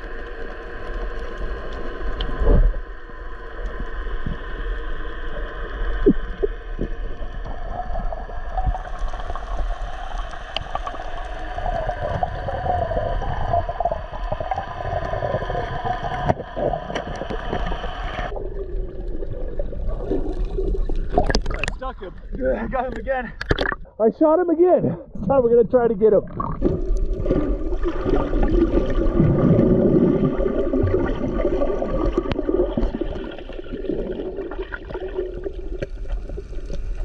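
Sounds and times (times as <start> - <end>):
gurgling water and bubbles: 0.0 - 24.0, 26.1 - 37.0
steady underwater hum: 0.0 - 24.0, 24.6 - 37.0.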